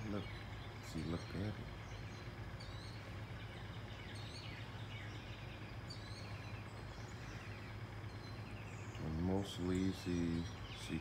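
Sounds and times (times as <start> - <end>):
faint birds chirping: 0.0 - 11.0
steady low hum: 0.0 - 11.0.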